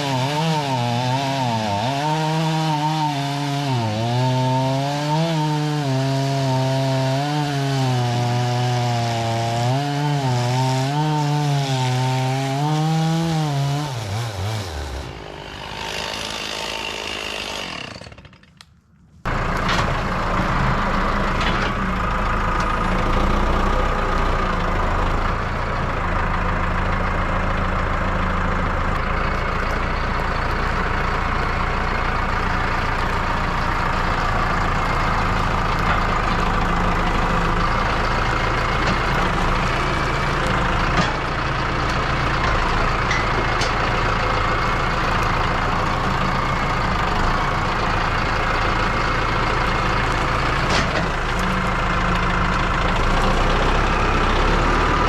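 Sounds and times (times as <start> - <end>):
heavy engine running: 0.0 - 55.0.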